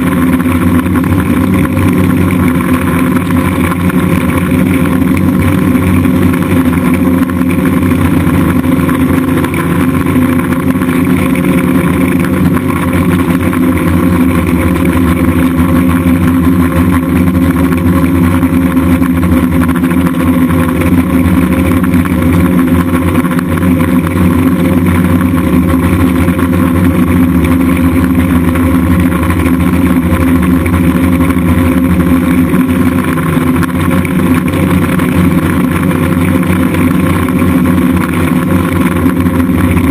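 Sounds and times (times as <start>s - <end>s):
drone propellers droning: 0.0s - 39.9s.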